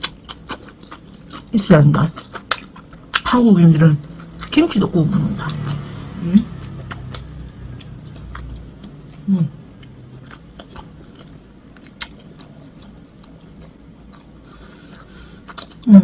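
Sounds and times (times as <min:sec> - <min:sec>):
person chewing food: 0:00.0 - 0:05.9, 0:06.6 - 0:16.0.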